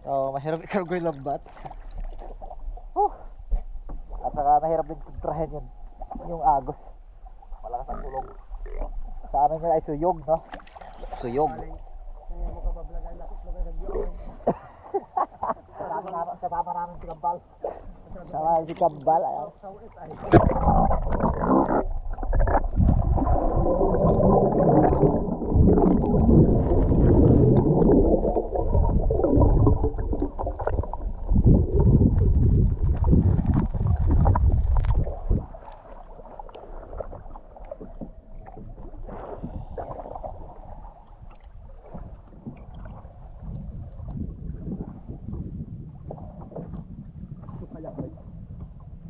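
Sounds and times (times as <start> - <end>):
underwater bubbles and churning: 0.0 - 49.0
sea and wind wash: 8.9 - 49.0.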